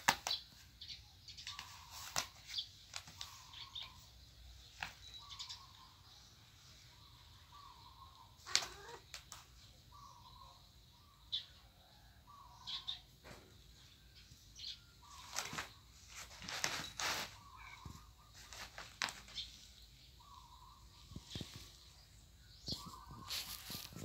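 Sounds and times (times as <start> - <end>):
faint bird calls: 0.1 - 24.0.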